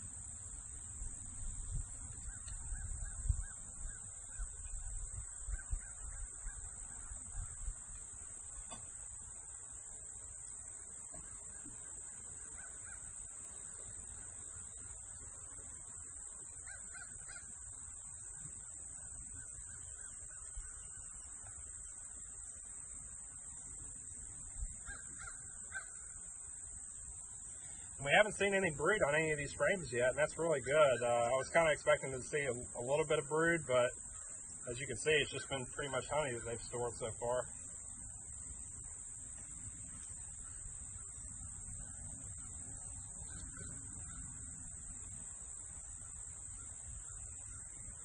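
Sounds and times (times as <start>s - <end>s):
distant bird calls: 0.0s - 48.0s
insect chirring: 0.0s - 48.0s.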